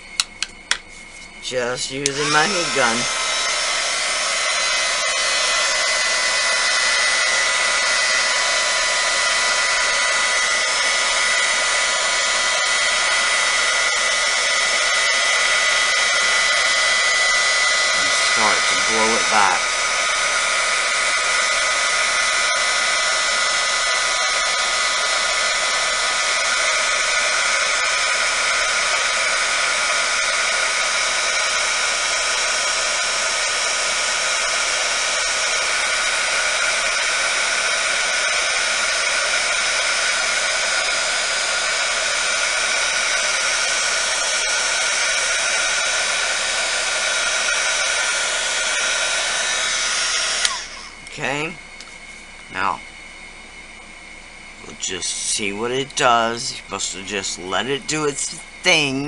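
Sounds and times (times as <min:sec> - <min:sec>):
fan whine: 0:00.0 - 0:59.0
heat gun blowing air: 0:00.0 - 0:59.0.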